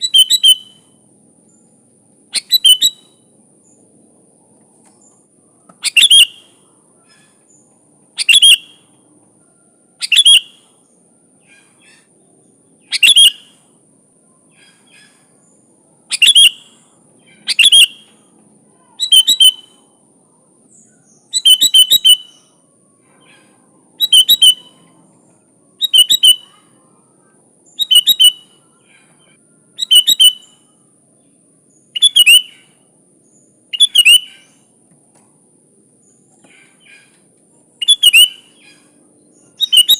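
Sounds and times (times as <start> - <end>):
bird chirping: 0.0 - 3.9, 4.8 - 35.2, 36.0 - 39.9.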